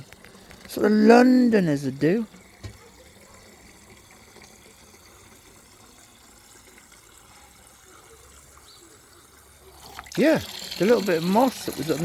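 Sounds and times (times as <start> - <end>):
tap water running into container: 0.0 - 12.0.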